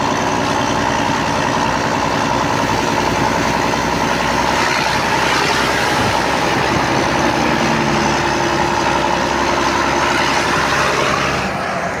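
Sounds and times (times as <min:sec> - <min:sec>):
engine through open exhaust: 0:00.0 - 0:12.0.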